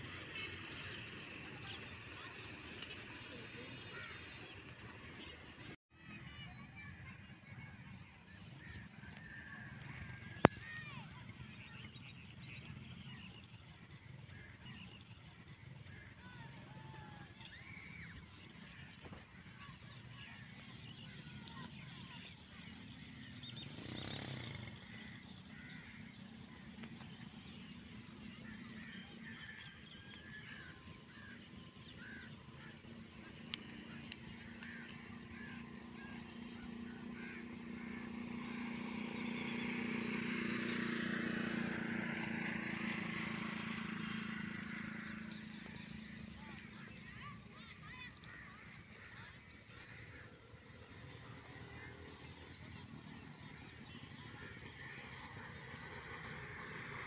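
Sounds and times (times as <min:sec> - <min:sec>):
low engine hum: 0:00.0 - 0:57.0.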